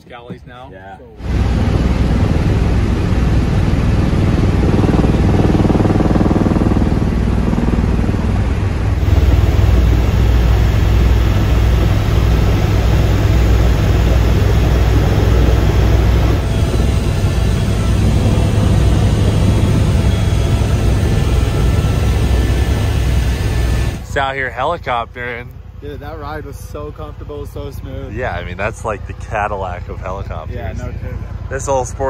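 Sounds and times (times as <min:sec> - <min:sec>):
helicopter engine and rotor: 0:01.2 - 0:32.0.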